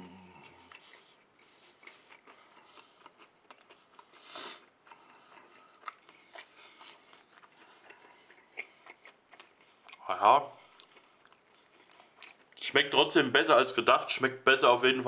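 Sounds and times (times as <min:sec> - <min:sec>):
man chewing: 0:00.0 - 0:12.7.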